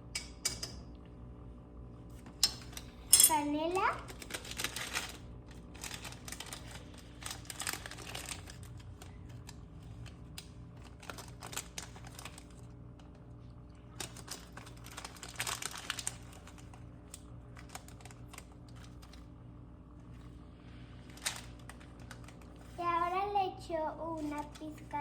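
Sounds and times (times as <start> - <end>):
steady low hum: 0.0 - 25.0
cinnamon clicking and crinkling: 2.0 - 23.1, 23.9 - 25.0.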